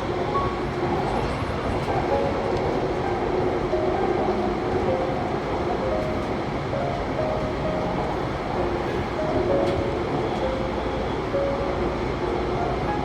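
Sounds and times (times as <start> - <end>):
train rumbling over bridge: 0.0 - 13.0.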